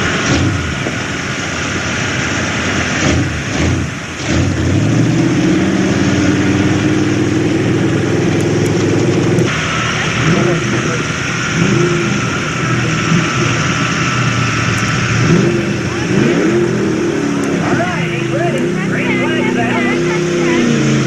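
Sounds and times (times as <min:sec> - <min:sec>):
pickup truck engine at full throttle: 0:00.0 - 0:21.0.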